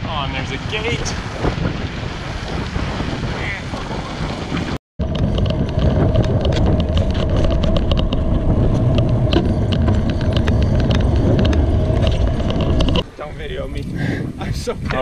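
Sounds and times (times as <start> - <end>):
road noise: 0.0 - 14.9
wind buffeting microphone: 0.0 - 15.0
bike rattling and clicking: 0.8 - 13.0.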